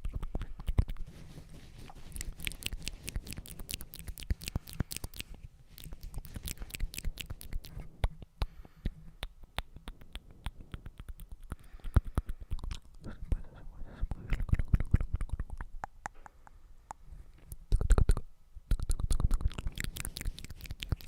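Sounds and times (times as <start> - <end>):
wet mouth clicks and smacks: 0.0 - 1.1, 1.9 - 13.4, 14.1 - 21.0.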